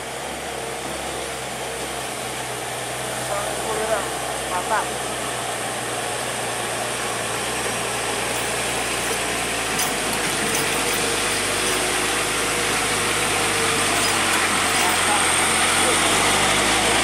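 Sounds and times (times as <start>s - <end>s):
heavy truck diesel engine: 0.0s - 17.0s.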